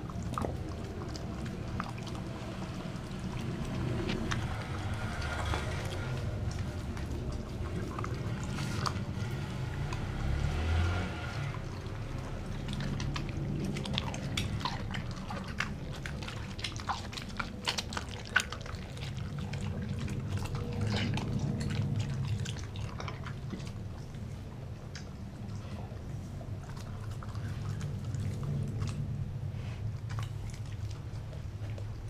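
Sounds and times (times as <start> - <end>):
dog chewing and licking: 0.0 - 32.0
low steady rumble: 0.0 - 32.0.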